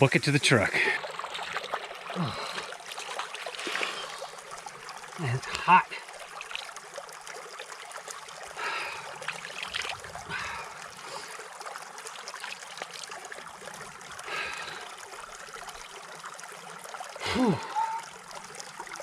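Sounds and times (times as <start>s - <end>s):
creek water trickling: 0.0s - 19.0s.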